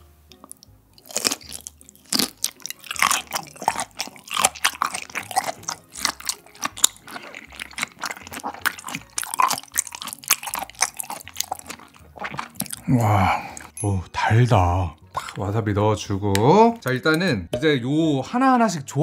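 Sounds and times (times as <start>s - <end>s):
wet chewing sounds: 0.3s - 13.8s, 14.9s - 17.1s.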